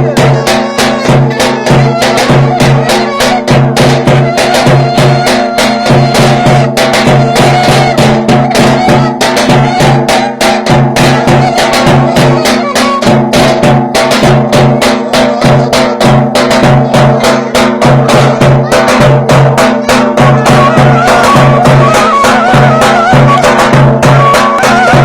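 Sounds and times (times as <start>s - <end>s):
drum beating fast rhythm: 0.0s - 25.0s
reed instrument melody: 0.0s - 25.0s.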